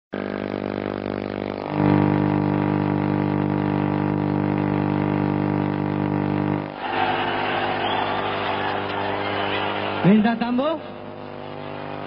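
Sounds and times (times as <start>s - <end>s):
loud steady hum: 0.2s - 12.0s.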